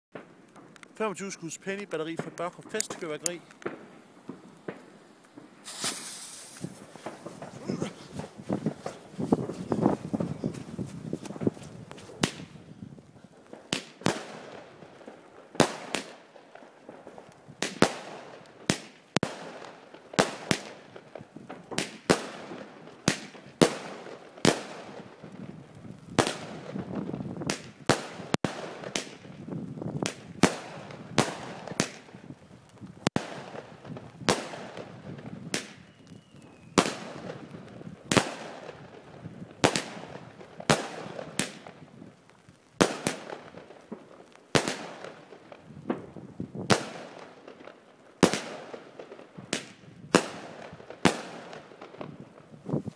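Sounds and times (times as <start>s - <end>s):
fireworks bangs: 0.1s - 52.9s.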